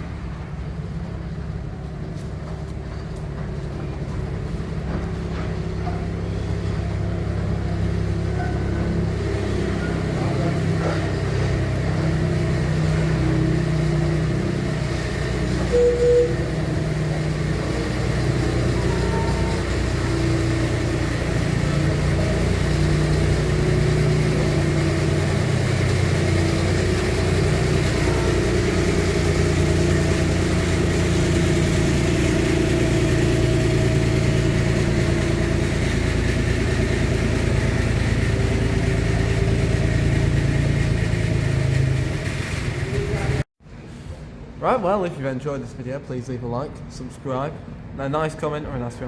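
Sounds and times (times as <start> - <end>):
engine humming: 0.0 - 43.5.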